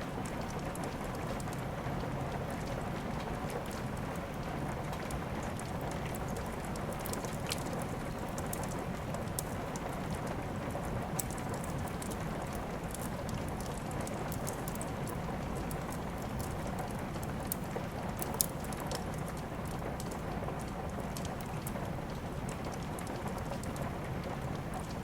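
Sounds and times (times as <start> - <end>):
steady rain falling: 0.0 - 25.0
wood fire crackling: 0.1 - 25.0.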